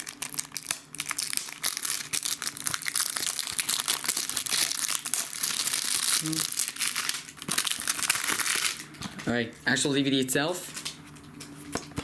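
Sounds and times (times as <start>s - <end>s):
plastic shrink-wrap crinkling: 0.0s - 12.0s.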